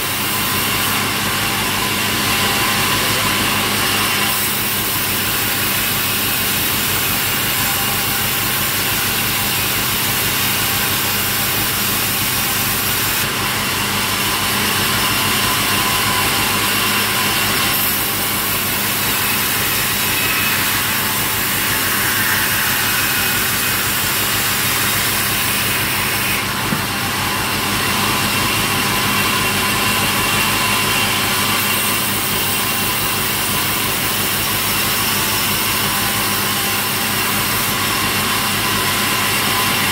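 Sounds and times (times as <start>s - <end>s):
high-pitched saw whine: 0.0s - 39.9s
sawmill engine hum: 0.0s - 39.9s.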